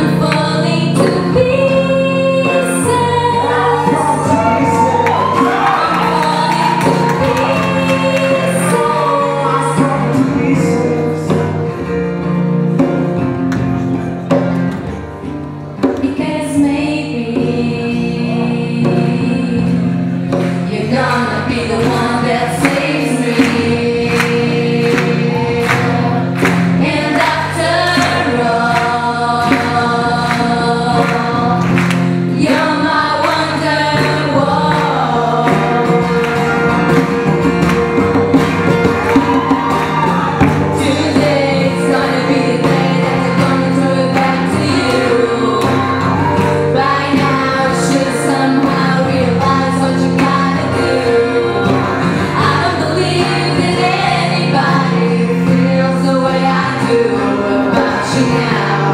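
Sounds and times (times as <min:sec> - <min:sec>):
man and woman singing: 0:00.0 - 0:11.7, 0:16.2 - 0:58.9
hand drum beat: 0:00.0 - 0:58.9
strummed acoustic guitar: 0:00.0 - 0:58.9.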